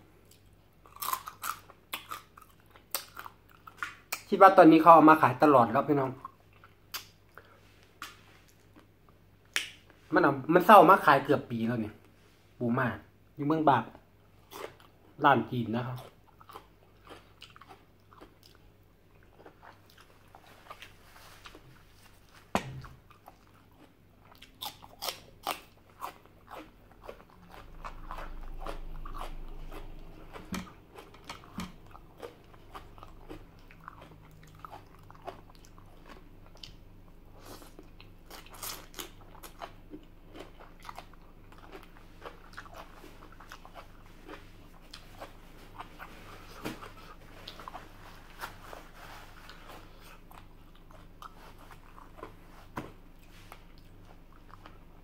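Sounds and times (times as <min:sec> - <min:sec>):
chewing and crunching food: 0:00.0 - 0:10.0, 0:14.3 - 0:55.0.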